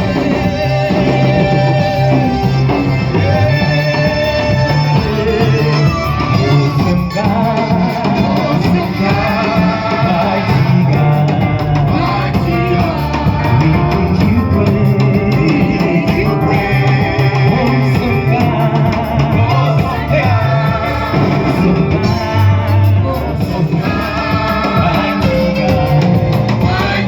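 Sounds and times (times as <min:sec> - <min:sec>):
church band playing: 0:00.0 - 0:27.0
people singing: 0:00.0 - 0:27.0
strong bass line: 0:00.0 - 0:27.0.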